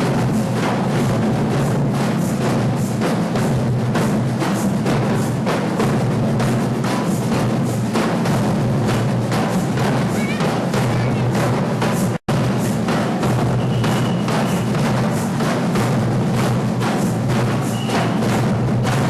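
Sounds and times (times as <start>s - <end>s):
deep drums: 0.0s - 19.0s
sharp drum strikes: 0.0s - 19.0s.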